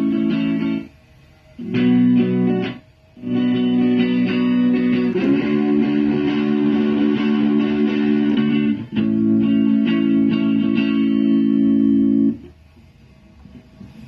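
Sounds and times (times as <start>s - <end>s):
electric guitar chords: 0.0s - 0.9s, 1.6s - 12.5s.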